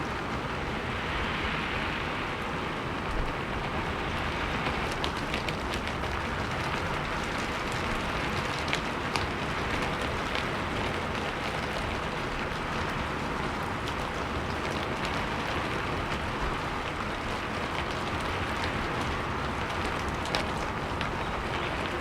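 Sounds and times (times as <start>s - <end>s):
rain hiss: 0.0s - 22.0s
raindrops ticking on a surface: 0.0s - 22.0s.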